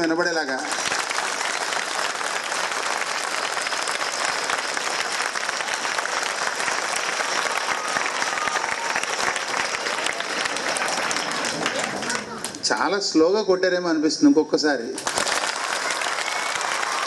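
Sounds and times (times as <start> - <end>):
crowd of children applauding: 0.0 - 12.8, 15.0 - 17.0.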